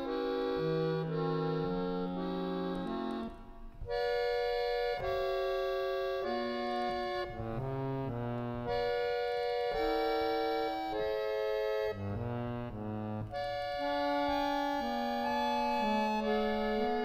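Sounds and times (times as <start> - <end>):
harmonium playing held chords: 0.0 - 17.0.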